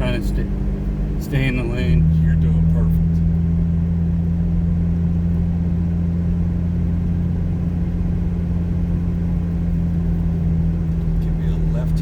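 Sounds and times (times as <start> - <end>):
car cabin drone: 0.0 - 12.0.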